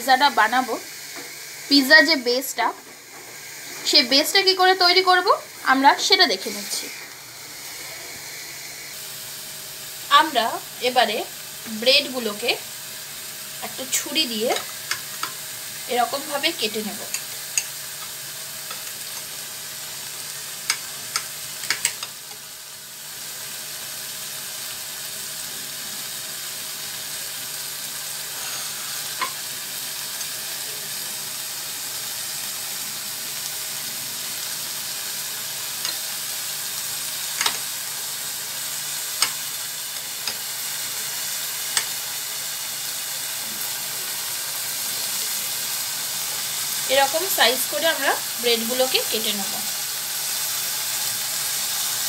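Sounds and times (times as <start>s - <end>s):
chicken sizzling in oil: 0.0s - 52.0s.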